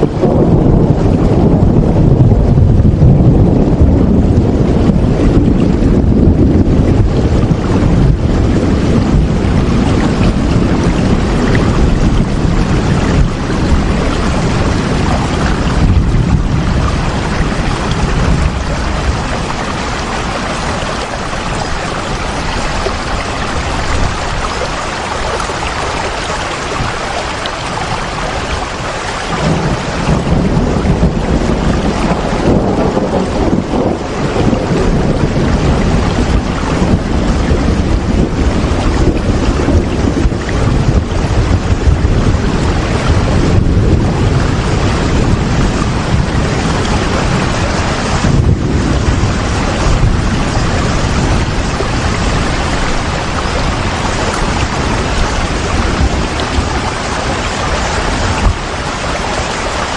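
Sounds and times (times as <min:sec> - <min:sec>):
deep low rumble: 0:00.0 - 0:58.6
heavy rainfall: 0:00.0 - 0:59.9.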